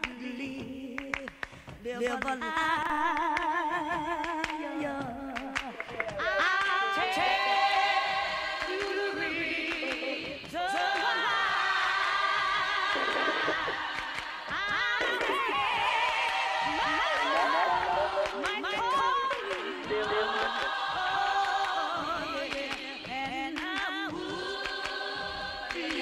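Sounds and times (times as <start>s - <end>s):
voices singing in harmony: 0.0s - 26.0s.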